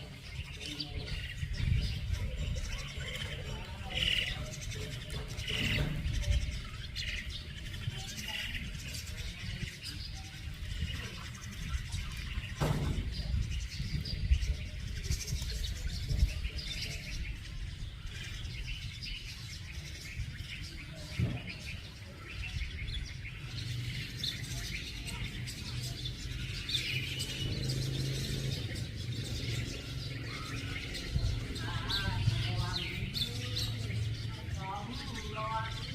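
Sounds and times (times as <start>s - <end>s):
birds chirping and twittering: 0.0s - 35.9s.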